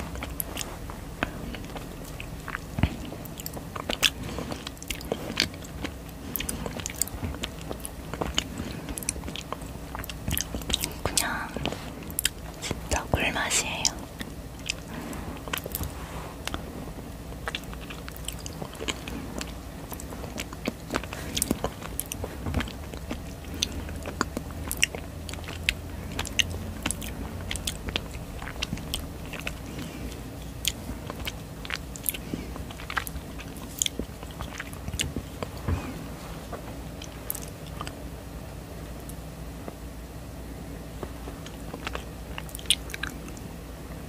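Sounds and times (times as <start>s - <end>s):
biting and chewing jelly: 0.0s - 39.9s, 40.6s - 44.0s.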